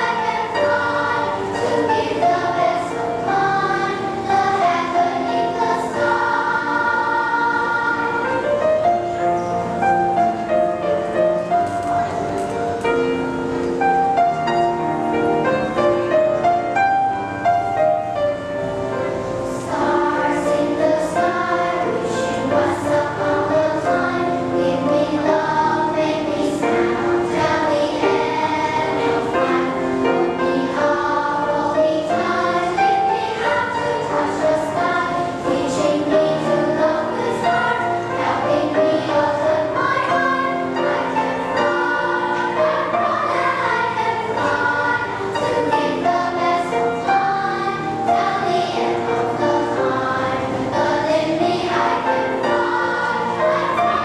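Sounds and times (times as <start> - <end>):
children's choir singing: 0.0 - 54.0
piano: 0.0 - 54.0.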